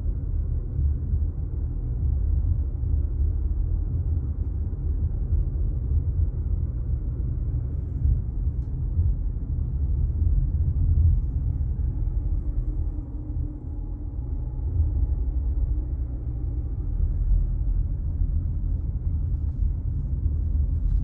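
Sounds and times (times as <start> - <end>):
car driving rumble inside cabin: 0.0 - 21.0.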